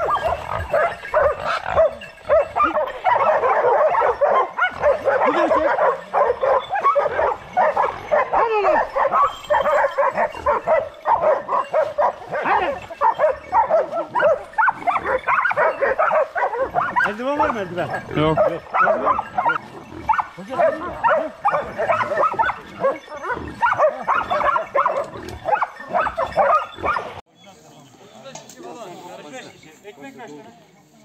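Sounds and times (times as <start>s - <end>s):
dogs barking and yelping: 0.0s - 27.2s
dogs whimpering: 0.0s - 27.2s.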